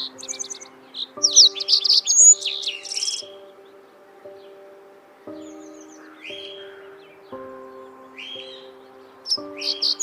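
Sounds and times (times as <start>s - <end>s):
bird chirping: 0.0s - 10.0s
soft background music: 0.0s - 10.0s.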